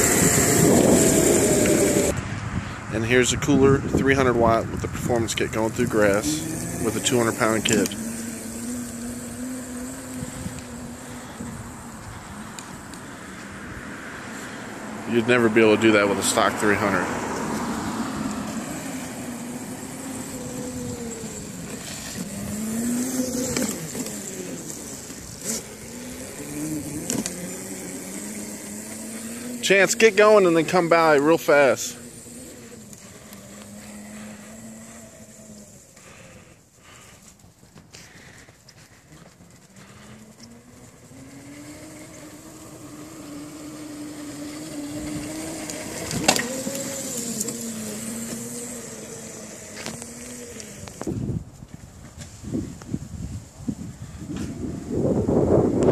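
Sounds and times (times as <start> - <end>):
electric motor whining: 0.0 - 2.3, 5.0 - 51.5.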